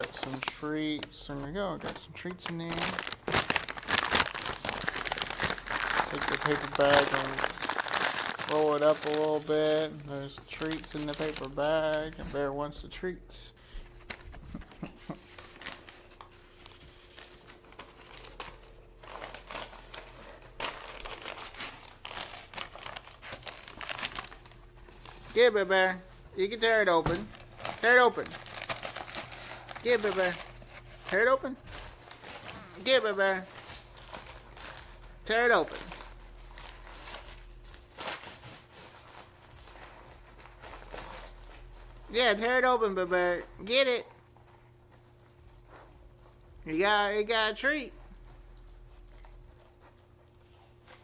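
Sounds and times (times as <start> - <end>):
paper bag crinkling: 0.0 - 12.8, 13.8 - 44.9.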